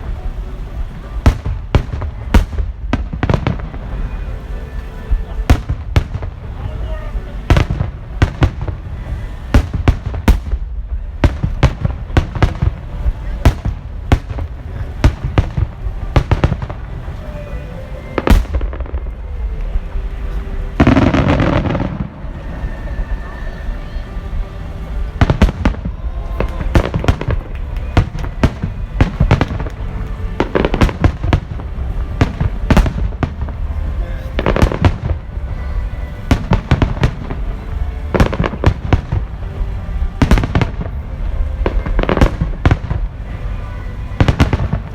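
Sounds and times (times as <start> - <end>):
fireworks bursting: 0.0 - 44.9
rumble of echoes: 0.0 - 44.9.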